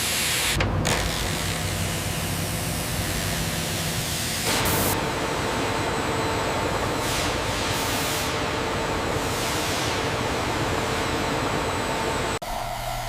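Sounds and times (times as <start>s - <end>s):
wood-processing machinery running: 0.0s - 12.4s.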